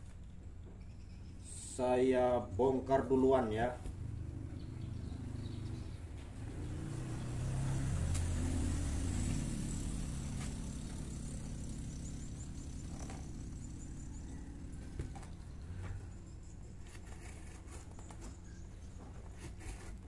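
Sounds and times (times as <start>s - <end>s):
vehicle engine passing: 2.0s - 20.0s.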